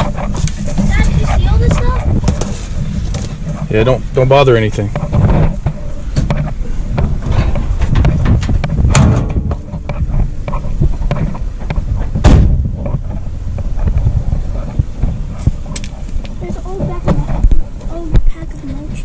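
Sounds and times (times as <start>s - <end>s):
microphone handling rumble: 0.0s - 19.0s.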